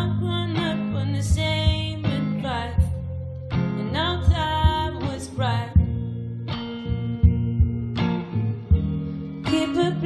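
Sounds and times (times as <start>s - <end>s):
guitar playing: 0.0s - 10.0s.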